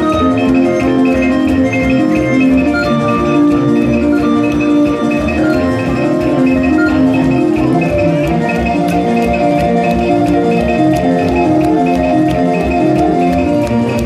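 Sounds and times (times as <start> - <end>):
held melodic tones: 0.0 - 14.0.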